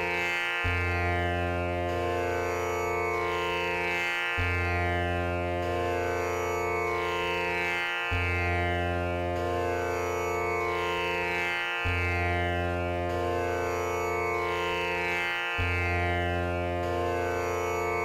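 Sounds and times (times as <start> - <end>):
sustained drone music: 0.0 - 18.0.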